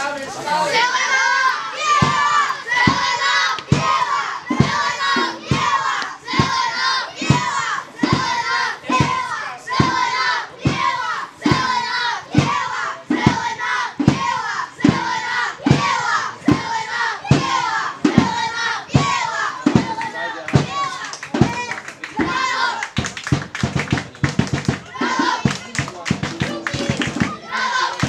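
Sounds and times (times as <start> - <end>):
football supporters chanting: 0.3 - 23.0, 23.7 - 28.0
low thumps on the beat: 1.8 - 28.0.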